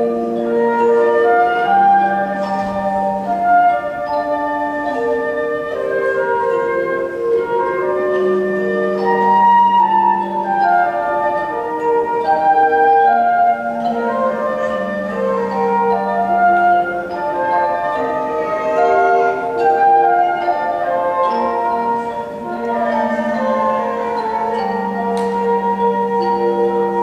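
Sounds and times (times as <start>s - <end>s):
flute: 0.0s - 27.0s.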